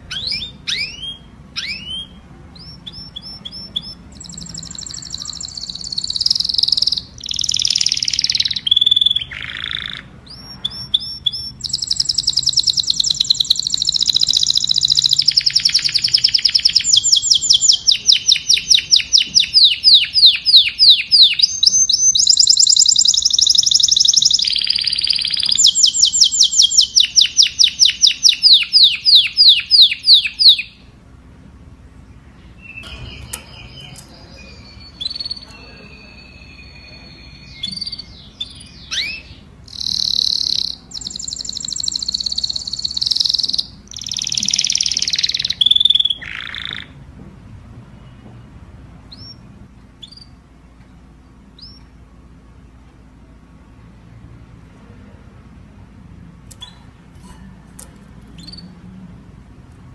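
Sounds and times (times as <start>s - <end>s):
canary singing trills: 0.0s - 31.0s, 32.1s - 47.0s, 49.0s - 52.4s, 56.5s - 59.4s.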